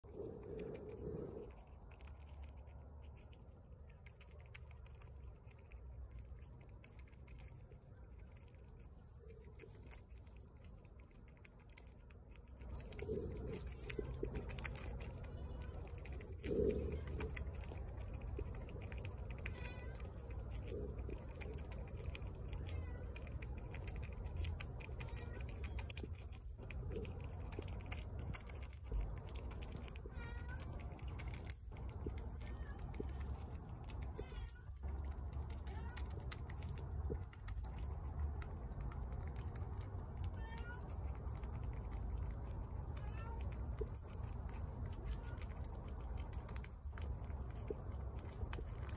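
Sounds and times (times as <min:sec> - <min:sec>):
low steady rumble: 0:00.0 - 0:48.9
squirrel chewing: 0:00.0 - 0:48.9.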